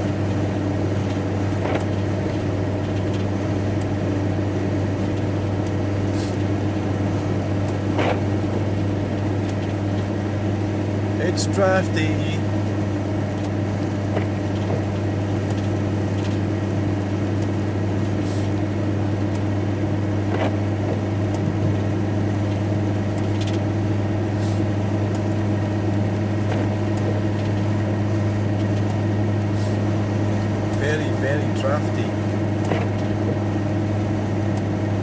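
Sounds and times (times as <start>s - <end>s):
road noise: 0.0s - 35.0s
van engine drone: 0.0s - 35.0s.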